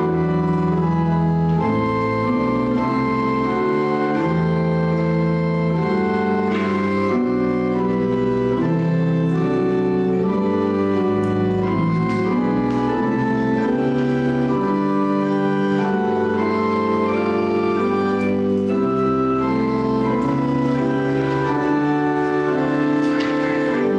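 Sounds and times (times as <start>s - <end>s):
organ playing slow chords: 0.0s - 23.9s.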